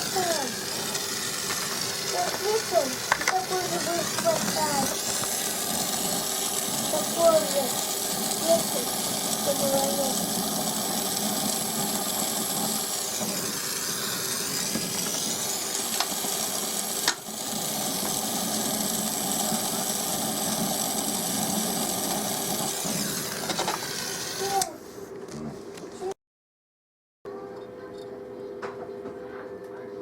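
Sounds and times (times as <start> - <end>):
machine hiss and hum: 0.0 - 25.1.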